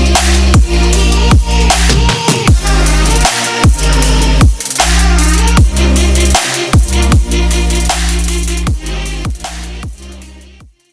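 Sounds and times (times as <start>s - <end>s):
electronic dance music: 0.0s - 10.9s.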